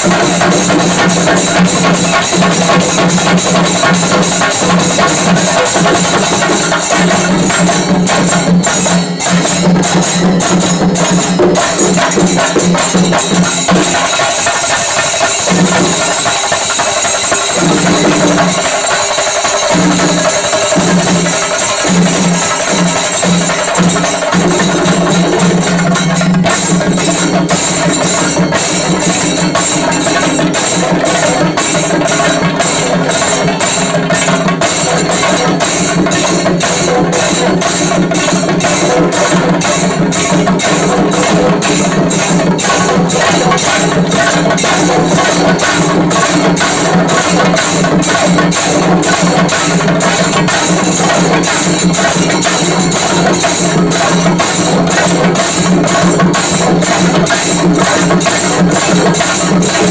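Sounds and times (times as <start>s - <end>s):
ensemble of drums beaten with sticks: 0.0s - 59.9s.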